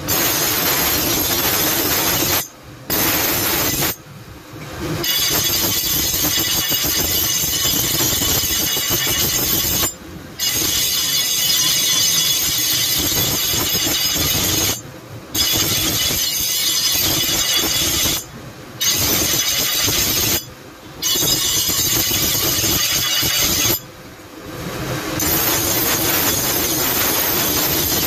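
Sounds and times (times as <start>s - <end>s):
grinding wheel screeching on blade: 0.0s - 4.0s, 5.0s - 23.9s, 25.2s - 28.0s.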